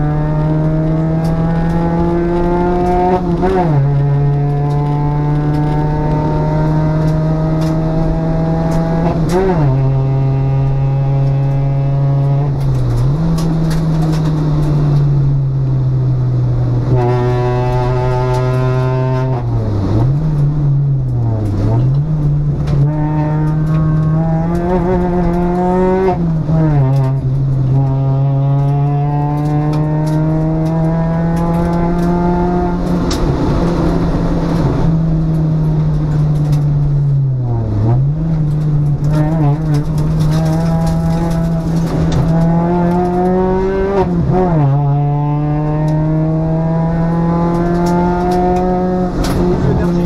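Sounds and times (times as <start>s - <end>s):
rally car engine at high revs: 0.0s - 50.0s.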